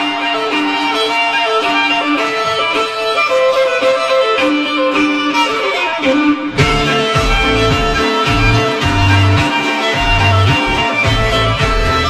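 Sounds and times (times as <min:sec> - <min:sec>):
instrumental theme music: 0:00.0 - 0:12.0.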